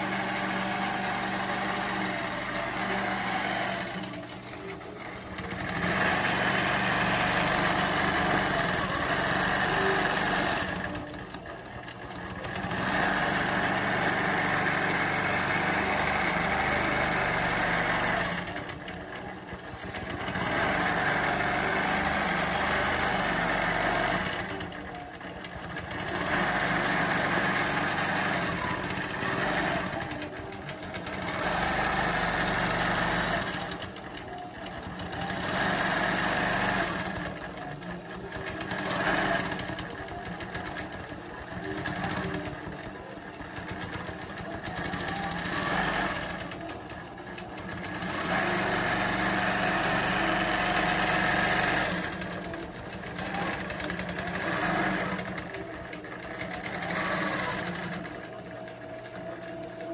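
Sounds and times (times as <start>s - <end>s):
quilting machine hum and rattle: 0.0s - 59.9s.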